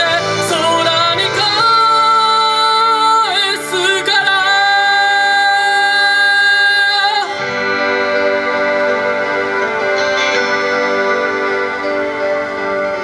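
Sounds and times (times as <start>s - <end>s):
pop backing track: 0.0s - 13.0s
singer holding long notes: 0.0s - 13.0s.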